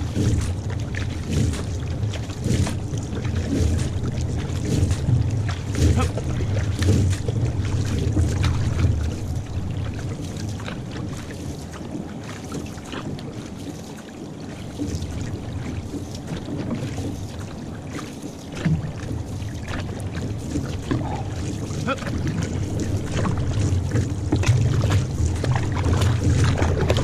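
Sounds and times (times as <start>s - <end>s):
paddle stroke splashes: 0.0s - 27.0s
water splashing along canoe hull: 0.0s - 27.0s
wind rumble on microphone: 0.0s - 27.0s.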